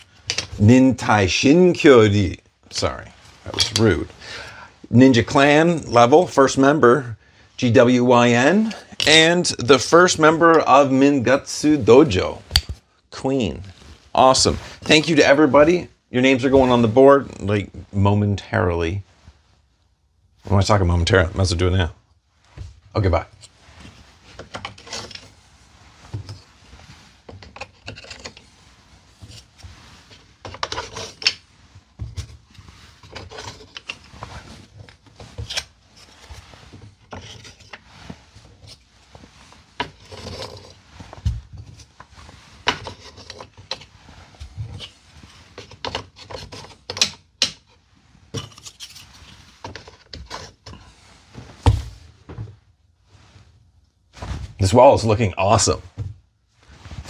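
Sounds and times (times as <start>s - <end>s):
clothing rustling: 0.0s - 57.0s.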